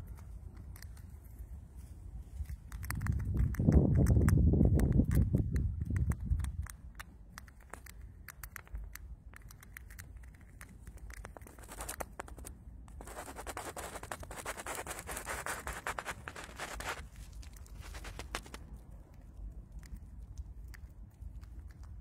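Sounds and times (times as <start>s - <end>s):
mouse gnawing peanut shell: 0.0s - 22.0s.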